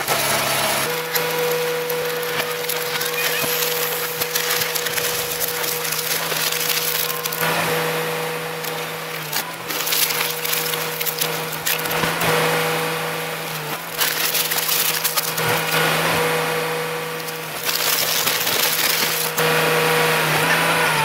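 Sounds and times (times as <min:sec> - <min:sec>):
car crusher machine hum: 0:00.0 - 0:21.0
crunching of breaking metal and glass: 0:00.2 - 0:19.4.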